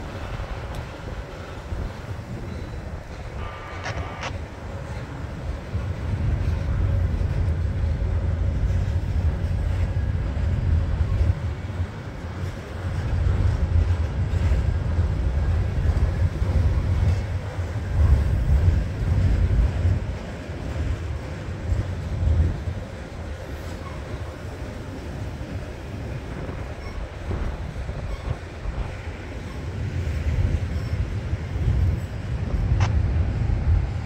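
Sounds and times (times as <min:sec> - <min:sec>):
freight train rolling on rails: 0:00.0 - 0:34.0.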